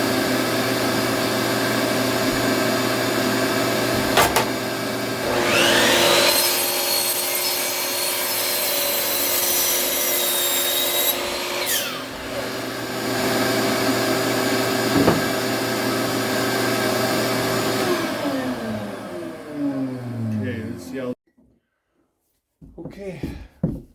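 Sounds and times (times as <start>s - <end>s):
electric saw cutting wood: 0.0s - 21.2s.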